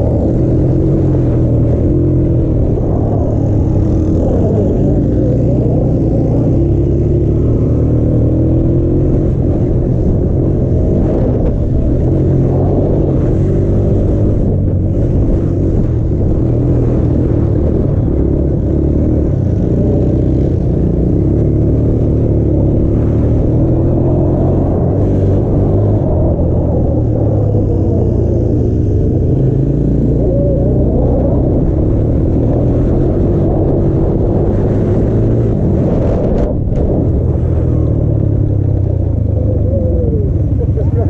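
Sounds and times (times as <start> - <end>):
small quad engine running hard: 0.0 - 41.0
wind rumble on microphone: 0.0 - 41.0.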